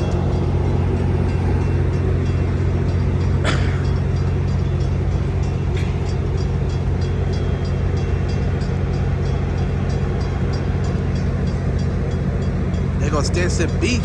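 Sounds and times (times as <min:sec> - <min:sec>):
diesel locomotive drone: 0:00.0 - 0:14.0.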